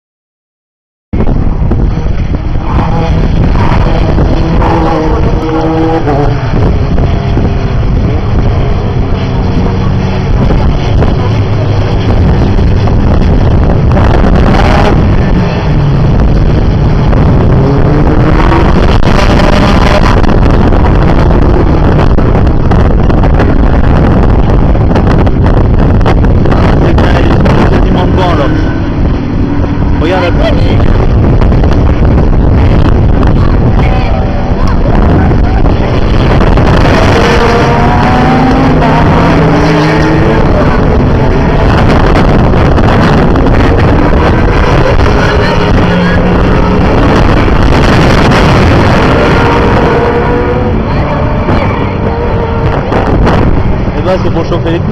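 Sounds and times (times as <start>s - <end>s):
wind buffeting microphone: 1.1s - 54.9s
racing car engines passing: 1.2s - 54.9s.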